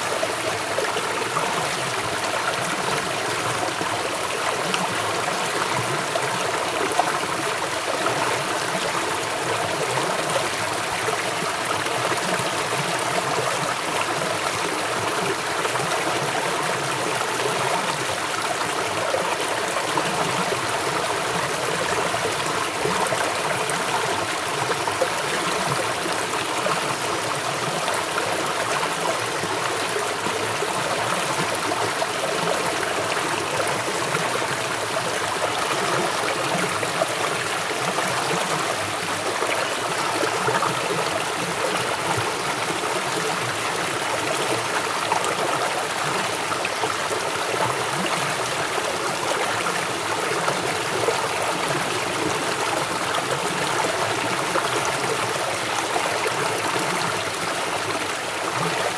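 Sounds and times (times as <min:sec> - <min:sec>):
river rushing and babbling: 0:00.0 - 0:58.9.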